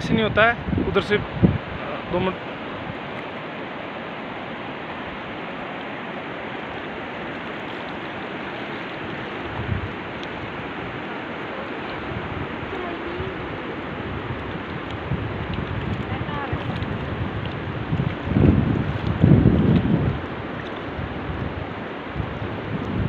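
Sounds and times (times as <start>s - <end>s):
water rushing over rapids: 0.0s - 23.0s.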